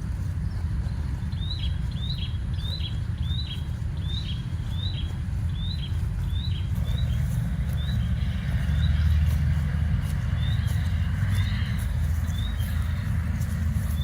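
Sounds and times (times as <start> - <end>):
steady low rumble: 0.0 - 14.0
bird chirping: 0.2 - 14.0.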